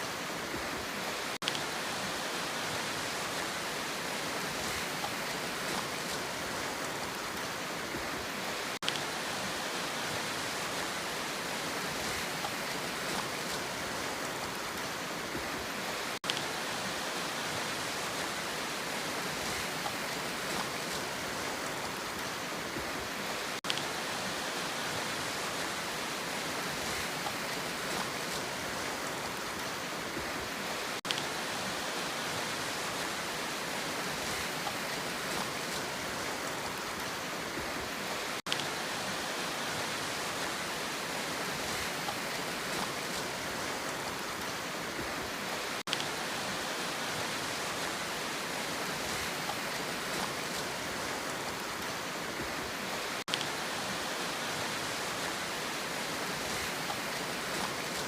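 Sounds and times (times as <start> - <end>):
rushing water hiss: 0.0 - 58.0.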